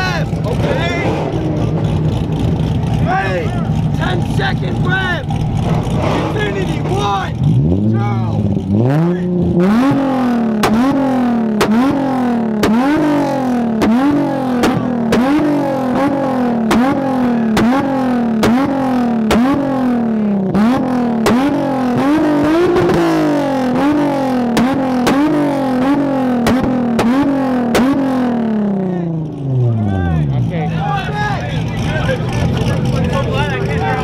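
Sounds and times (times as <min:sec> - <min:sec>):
car engine revving: 0:00.0 - 0:34.0
exhaust cracks: 0:00.0 - 0:34.0.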